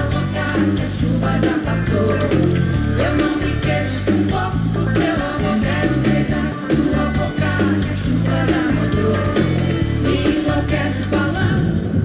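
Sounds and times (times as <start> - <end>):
drums and bass beat: 0.0 - 12.0
keyboards: 0.0 - 12.0
person singing: 0.0 - 12.0.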